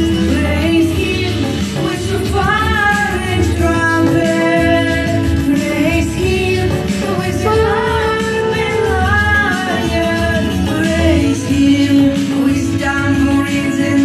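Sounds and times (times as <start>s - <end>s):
instrumental backing with bass: 0.0s - 14.0s
woman singing: 0.0s - 14.0s.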